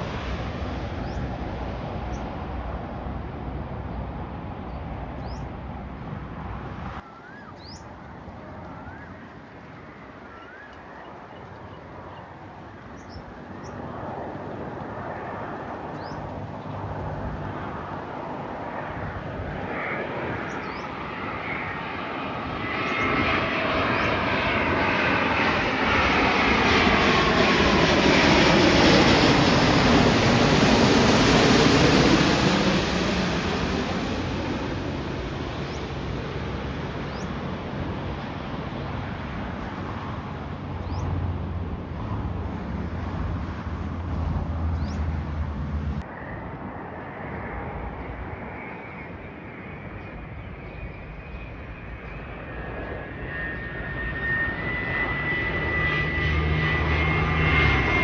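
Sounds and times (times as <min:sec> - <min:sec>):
jet airliner passing by: 0:00.0 - 0:58.0.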